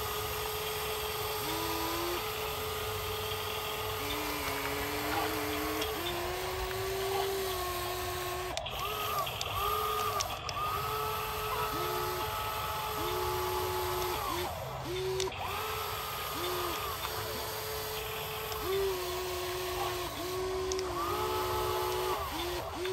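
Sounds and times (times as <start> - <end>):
small electric motors whining: 0.0 - 22.9.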